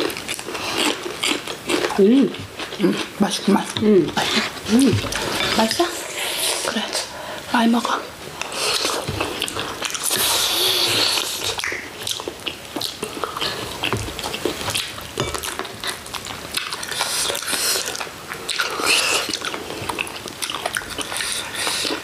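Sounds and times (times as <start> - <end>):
chewing and biting food: 0.0 - 5.8, 8.3 - 22.0.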